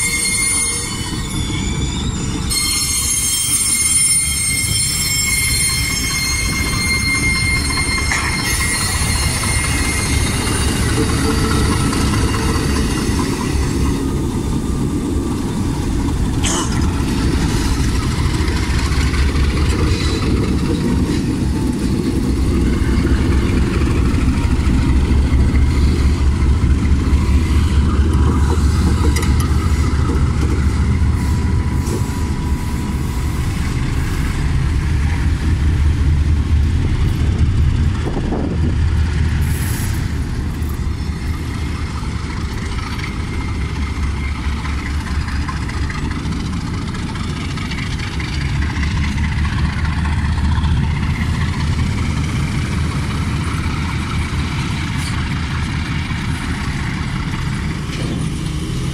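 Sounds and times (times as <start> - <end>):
locomotive engine rumbling: 0.0 - 58.9
train wheels squealing on rails: 0.0 - 58.9.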